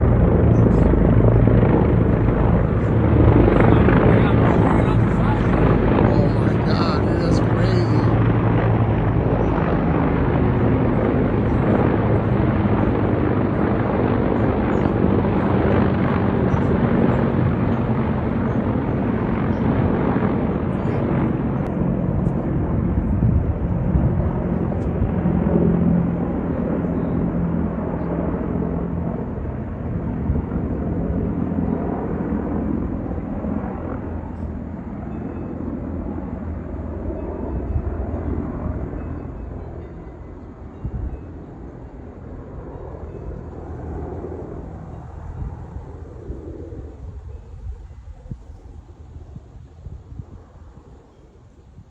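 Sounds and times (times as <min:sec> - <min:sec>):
helicopter rotor and engine rumble: 0:00.0 - 0:51.6.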